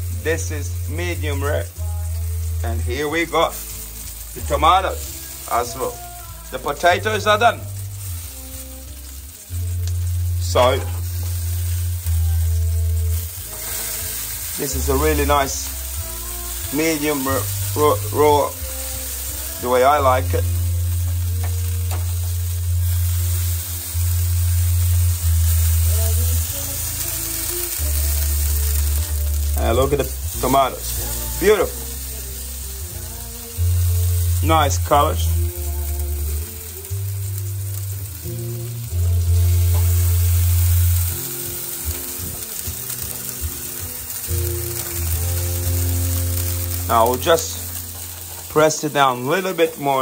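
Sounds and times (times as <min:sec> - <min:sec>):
background music with low chords: 0:00.0 - 0:50.0
meat sizzling on a grill: 0:00.0 - 0:50.0.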